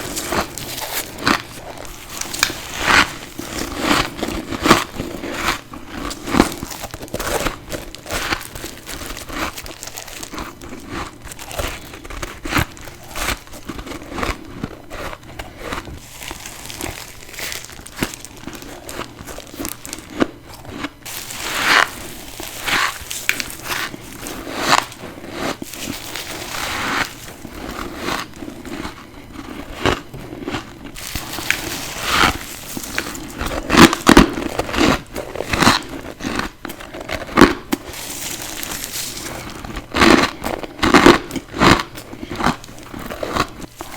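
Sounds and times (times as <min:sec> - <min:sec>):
person crunching ice: 0:00.0 - 0:43.9.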